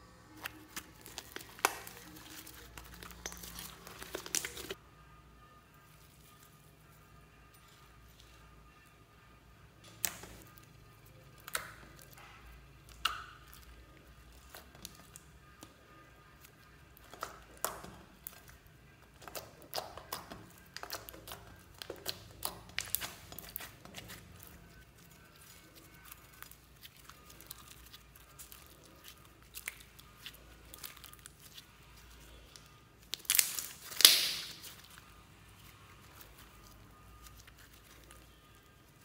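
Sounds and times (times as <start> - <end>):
slime squelching and crackling: 0.2 - 4.8, 9.9 - 39.0.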